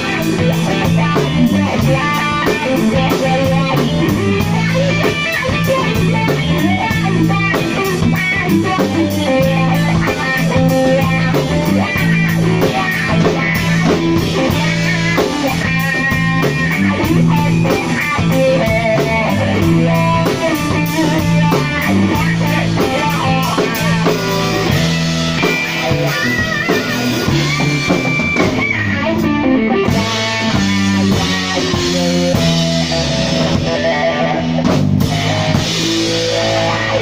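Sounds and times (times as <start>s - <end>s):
drum kit cymbal beat: 0.0s - 37.0s
electric guitar playing lead: 0.0s - 37.0s.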